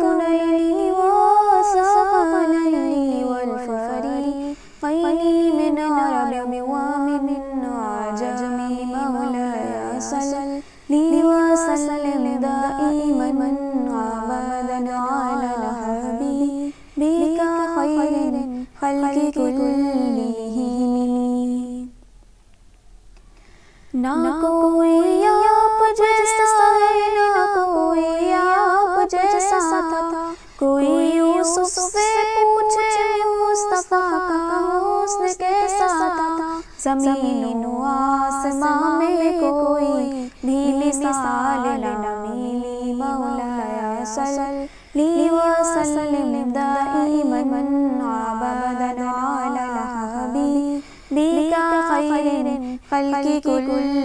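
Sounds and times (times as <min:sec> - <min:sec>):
person singing unaccompanied: 0:00.0 - 0:22.0, 0:24.0 - 0:54.0.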